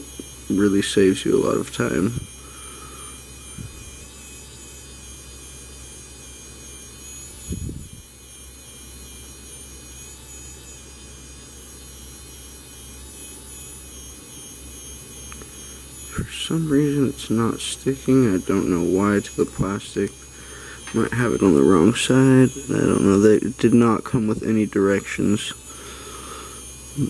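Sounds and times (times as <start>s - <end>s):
printing pen buzzing whine: 0.0s - 27.0s.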